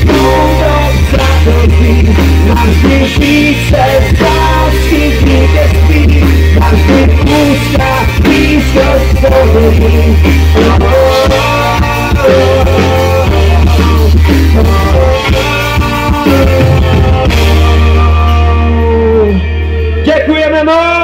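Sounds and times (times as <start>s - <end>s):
live pop-rock band: 0.0s - 21.0s.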